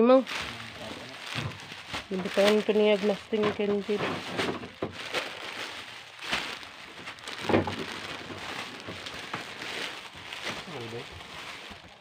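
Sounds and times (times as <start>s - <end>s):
plastic bags rustling and crinkling: 0.0s - 12.0s.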